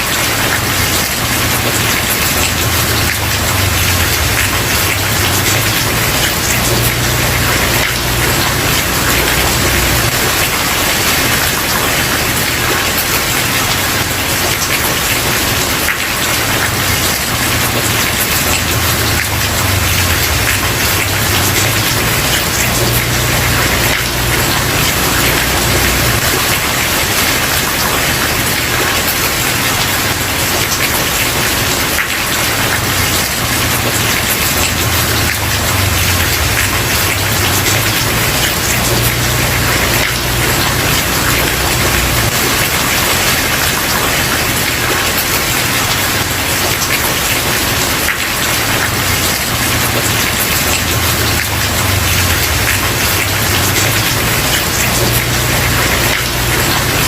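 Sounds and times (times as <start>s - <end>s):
heavy rain on wooden porch: 0.0s - 57.0s.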